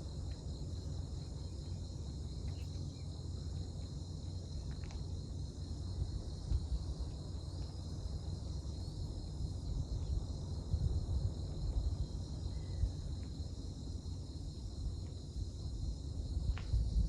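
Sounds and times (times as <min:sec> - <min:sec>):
insects trilling: 0:00.0 - 0:16.4.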